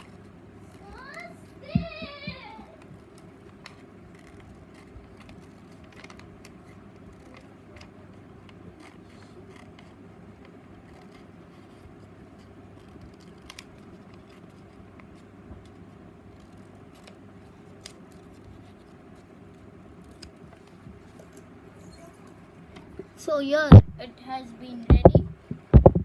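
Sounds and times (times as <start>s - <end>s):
paper rustling and clicking: 0.0s - 22.9s
steady low hum: 0.0s - 26.0s.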